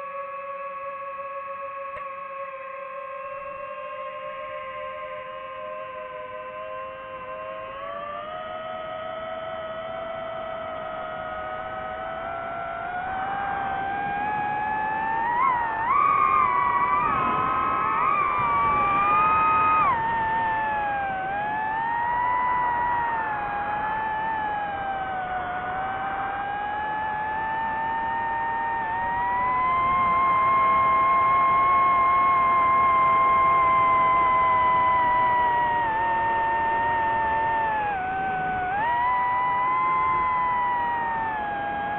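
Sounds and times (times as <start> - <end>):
drone propellers whining: 7.2 - 41.9.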